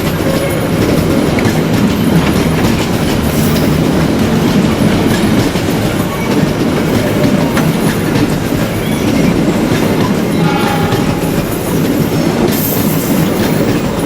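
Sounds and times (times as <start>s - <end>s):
train wheels rumbling on rail: 0.0s - 14.0s
wheels clacking over rail joints: 0.0s - 14.0s.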